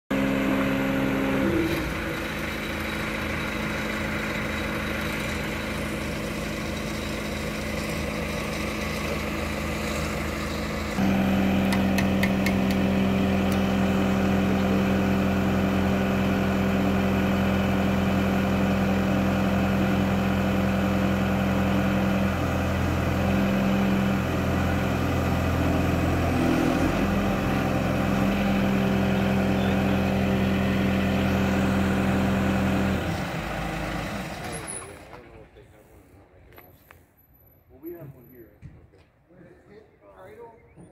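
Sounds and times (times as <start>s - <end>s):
forklift engine running: 0.1s - 35.7s.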